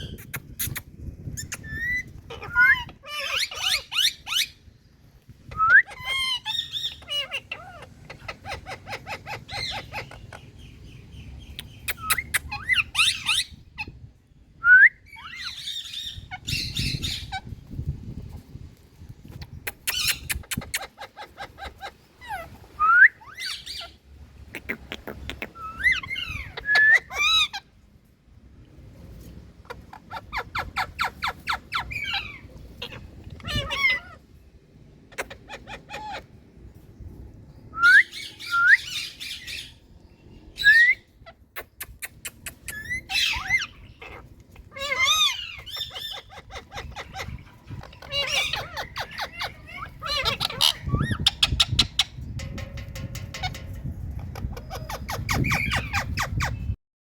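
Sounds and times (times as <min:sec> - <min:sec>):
parakeets squawking and chattering: 0:00.0 - 0:04.7, 0:05.4 - 0:14.1, 0:15.1 - 0:18.4, 0:19.3 - 0:28.0, 0:29.3 - 0:37.0, 0:37.7 - 0:56.8.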